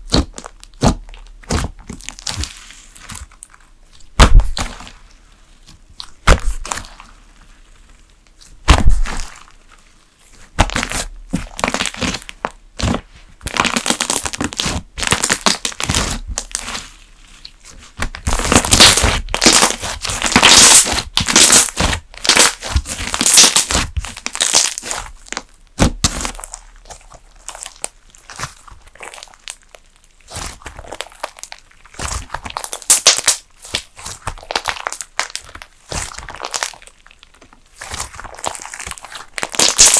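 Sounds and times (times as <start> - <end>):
slime popping and crackling: 0.0 - 7.5, 8.2 - 39.9.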